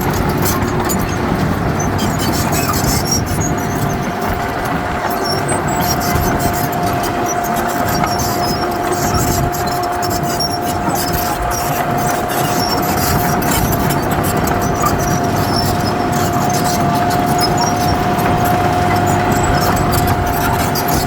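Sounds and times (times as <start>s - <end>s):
heavy machinery rumbling: 0.0s - 21.0s
high-pitched machine whine: 0.0s - 21.0s.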